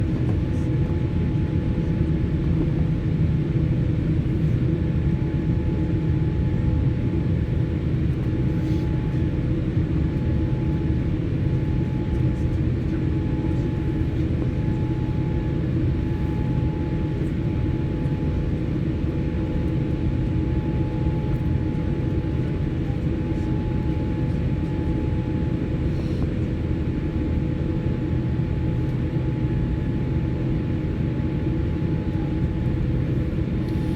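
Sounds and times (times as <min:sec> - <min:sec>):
airliner cabin rumble and hum: 0:00.0 - 0:33.9.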